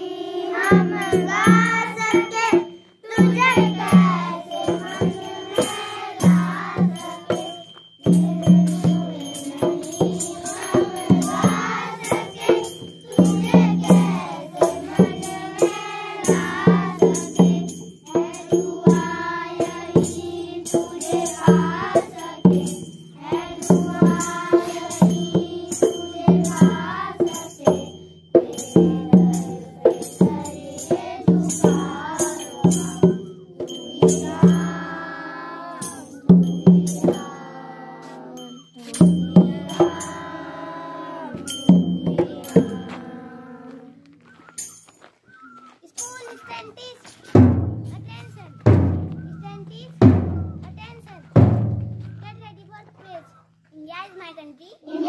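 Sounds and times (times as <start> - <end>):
children's chorus singing: 0.0 - 44.7
tambourine shaken to the beat: 0.0 - 52.5.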